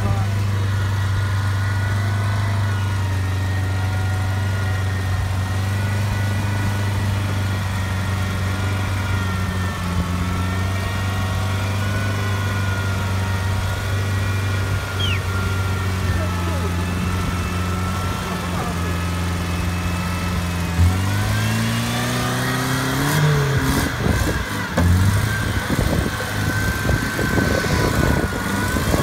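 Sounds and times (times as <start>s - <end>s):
car engine running steadily: 0.0s - 29.0s.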